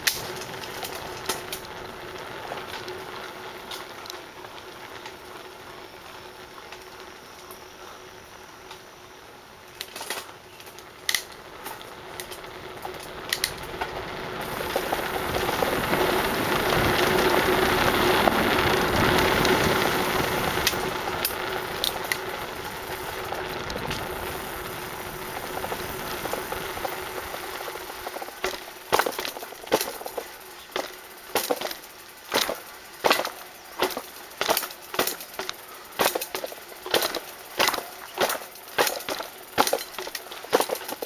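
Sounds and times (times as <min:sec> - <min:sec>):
bike clicking and rattling: 0:00.0 - 0:09.0, 0:09.6 - 0:41.0
bicycle tyre and wind noise: 0:00.0 - 0:41.0.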